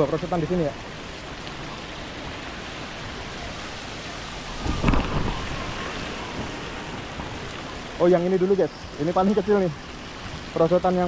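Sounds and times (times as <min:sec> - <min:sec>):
running and splashing water: 0:00.0 - 0:11.0
water gushing: 0:00.0 - 0:11.0.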